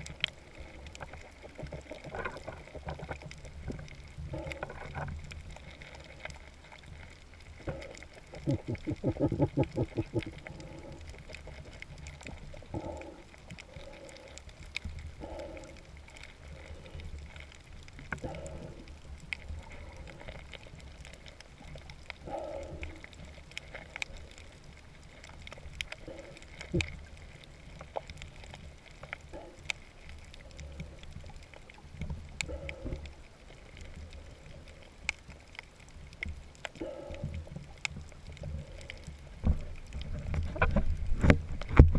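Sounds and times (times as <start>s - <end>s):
faint underwater clicks: 0.0s - 41.9s
low underwater rumble: 0.0s - 41.9s
soft muffled water swell: 0.0s - 41.9s.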